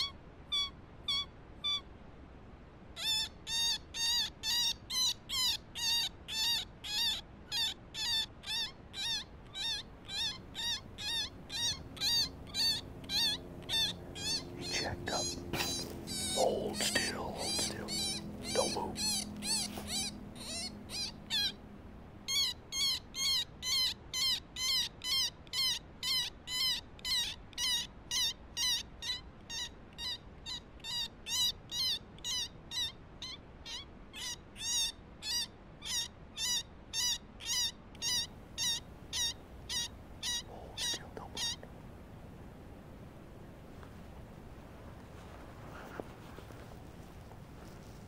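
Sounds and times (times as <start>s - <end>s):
predator call squeaks: 0.0s - 1.9s, 3.0s - 21.6s, 22.3s - 41.6s.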